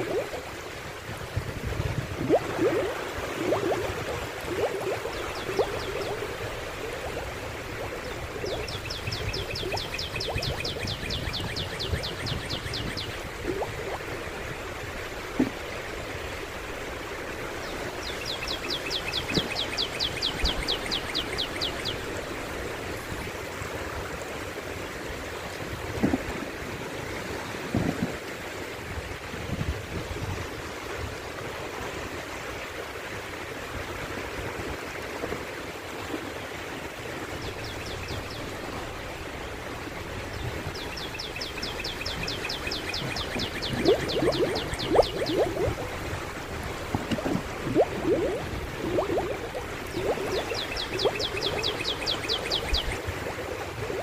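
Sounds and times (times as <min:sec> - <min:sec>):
sea waves lapping on beach: 0:00.0 - 0:29.4, 0:30.9 - 0:54.0.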